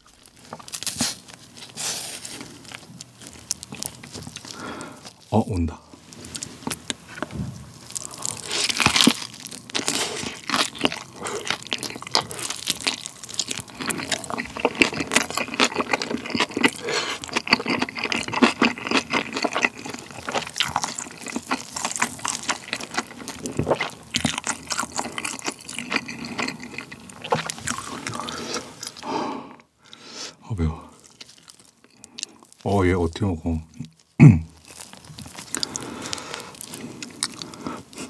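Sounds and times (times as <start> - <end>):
crisp crunches: 0.0 - 5.4, 6.0 - 29.0, 31.0 - 38.0
wet sticky chewing sounds: 0.0 - 5.4, 6.0 - 29.6, 30.8 - 38.0.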